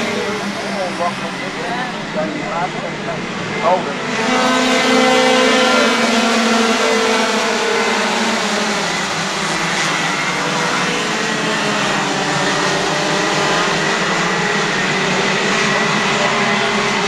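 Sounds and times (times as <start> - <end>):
racing kart engines droning: 0.0 - 17.0.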